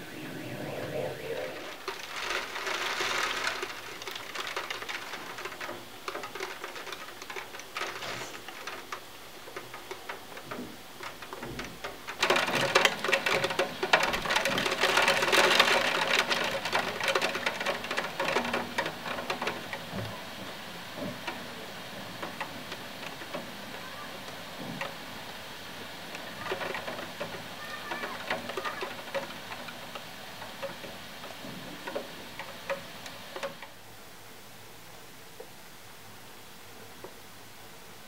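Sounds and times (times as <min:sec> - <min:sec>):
heavy rain on a window: 0:01.6 - 0:38.0.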